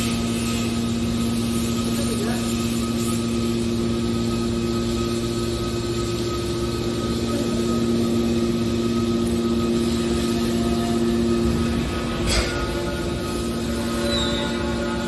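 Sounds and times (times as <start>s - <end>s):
baler motor and hydraulic pump: 0.0s - 15.0s.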